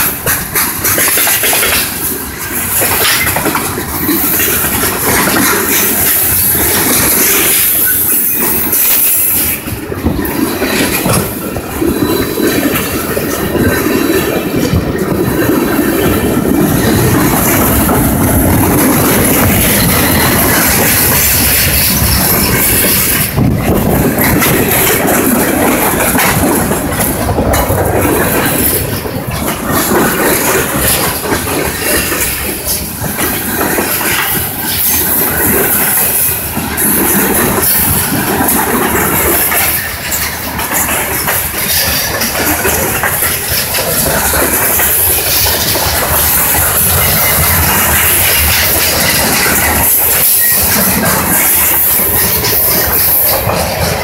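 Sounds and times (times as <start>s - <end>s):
freight train rolling past: 0.0s - 54.0s
wheels clicking over rail joints: 0.0s - 54.0s.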